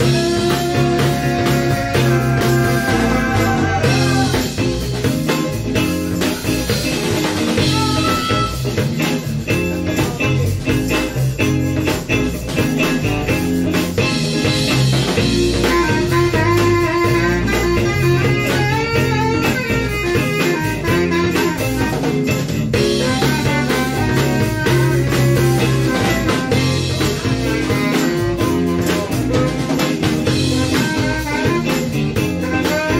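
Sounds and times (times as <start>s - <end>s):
bass guitar: 0.0s - 32.9s
drum kit steady beat: 0.0s - 32.9s
electric guitar: 0.0s - 32.9s.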